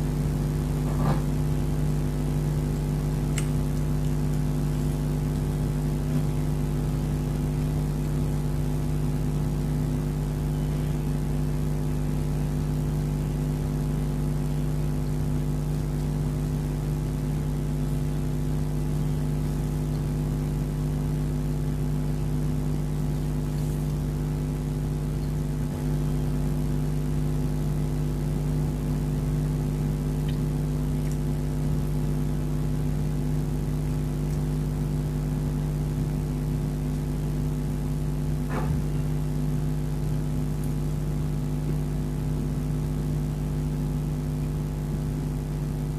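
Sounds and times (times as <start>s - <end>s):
low multi-tone hum: 0.0s - 45.9s.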